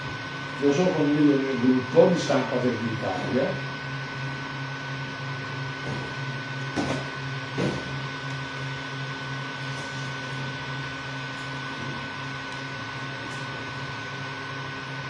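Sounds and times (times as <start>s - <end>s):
cooling fans whirring: 0.0s - 15.0s
stepper motors pulsing hum: 0.0s - 15.0s
thin whine: 0.0s - 15.0s.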